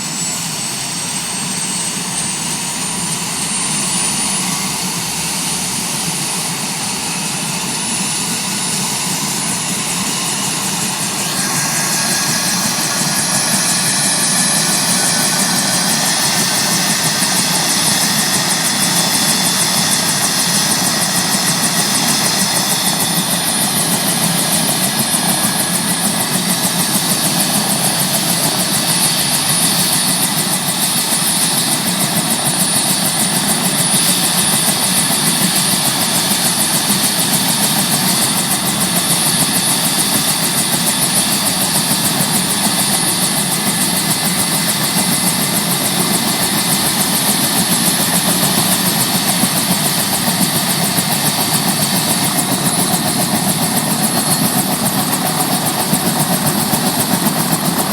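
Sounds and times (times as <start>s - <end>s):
helicopter turbine whine: 0.0s - 57.9s.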